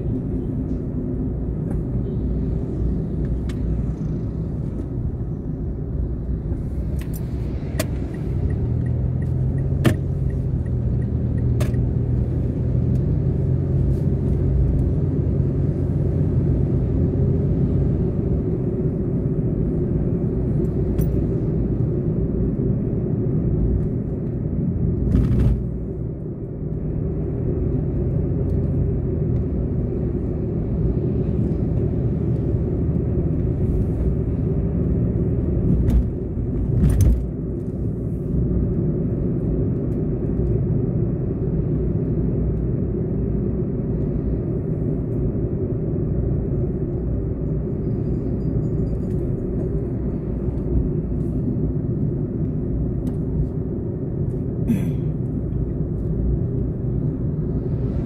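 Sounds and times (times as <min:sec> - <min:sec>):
car driving road rumble: 0:00.0 - 0:58.0.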